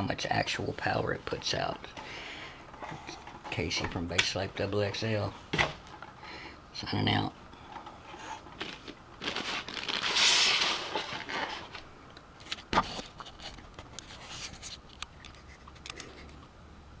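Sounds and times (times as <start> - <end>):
scraping rustle: 0.4 - 6.2, 6.9 - 16.4.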